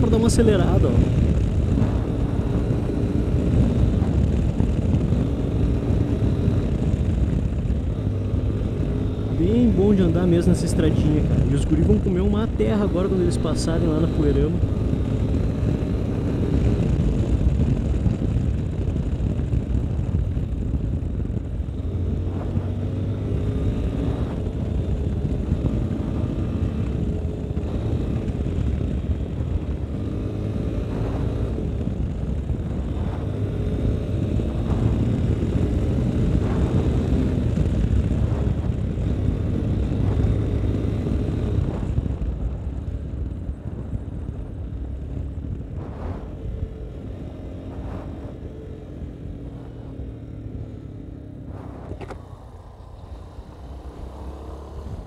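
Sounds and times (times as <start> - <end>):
motorcycle engine running: 0.0 - 55.0
wind and tyre noise: 0.0 - 55.0.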